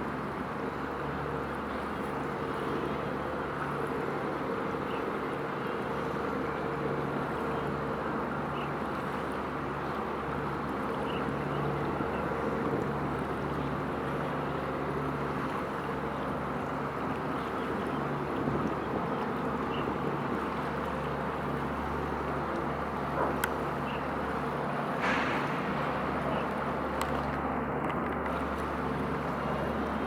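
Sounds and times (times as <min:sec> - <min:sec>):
ship engines droning: 0:00.0 - 0:30.0.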